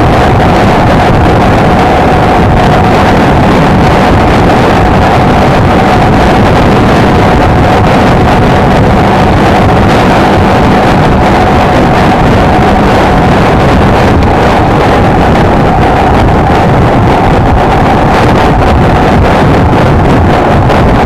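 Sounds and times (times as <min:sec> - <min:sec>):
wind noise on microphone: 0:00.0 - 0:21.0.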